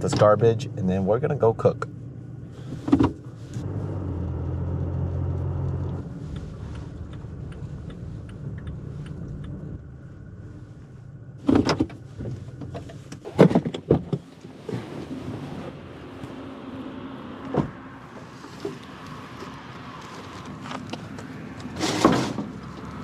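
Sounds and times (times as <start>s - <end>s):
truck engine and road hum: 0.0s - 23.0s.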